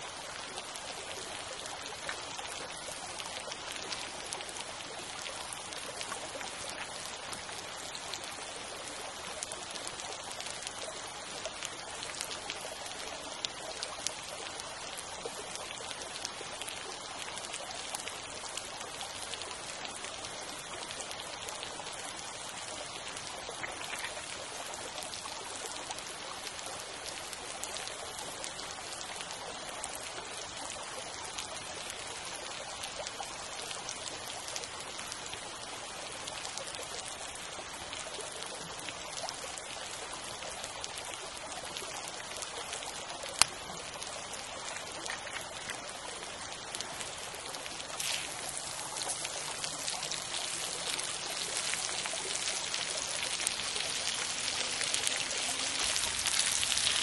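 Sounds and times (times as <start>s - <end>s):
creek water babbling over stones: 0.0s - 57.0s
small water splashes: 0.0s - 57.0s.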